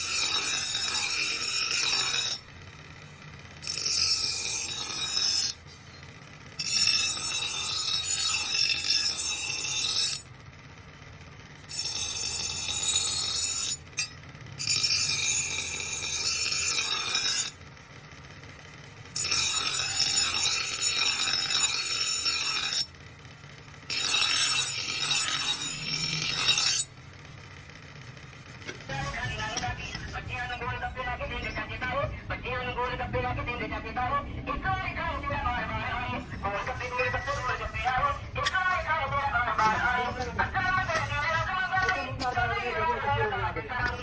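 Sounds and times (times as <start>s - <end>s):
blade scraping on abrasive: 0.0s - 10.3s, 11.6s - 17.6s, 19.1s - 23.0s, 23.8s - 27.0s, 28.2s - 31.9s, 35.4s - 44.0s.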